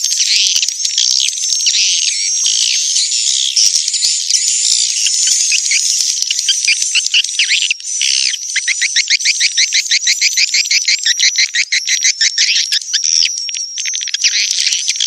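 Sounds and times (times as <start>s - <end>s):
swiftlets chirping and twittering: 0.0s - 15.0s.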